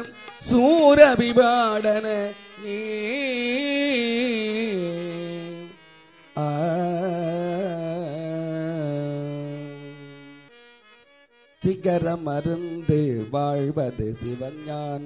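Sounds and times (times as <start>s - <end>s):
person singing devotional song: 0.0s - 10.9s, 11.6s - 15.0s
sustained melody instrument: 0.0s - 15.0s.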